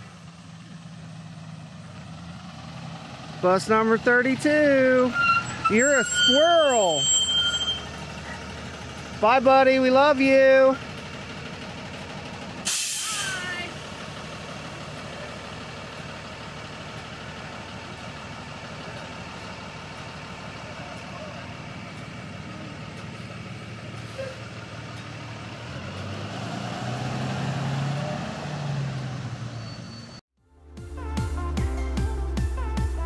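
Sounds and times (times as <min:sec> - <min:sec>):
bus engine idling and pulling away: 0:00.0 - 0:30.2.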